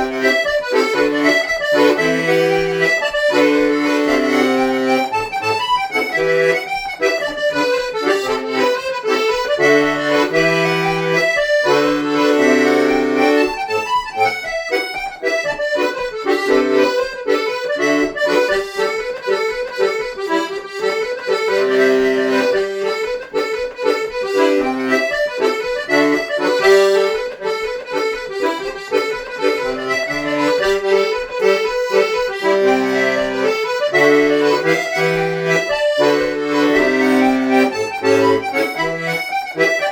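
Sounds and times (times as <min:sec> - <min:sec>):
accordion playing a dance tune: 0:00.0 - 0:39.9.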